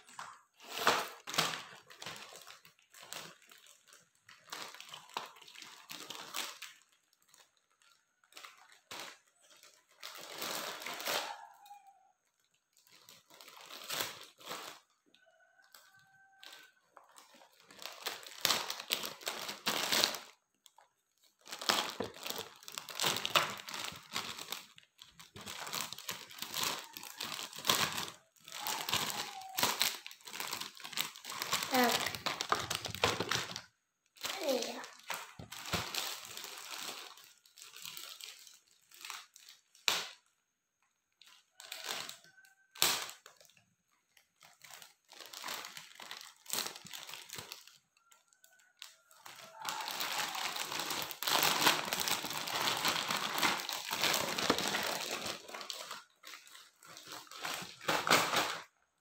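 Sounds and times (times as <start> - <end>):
plastic bag crinkling and tearing: 0.0 - 59.0.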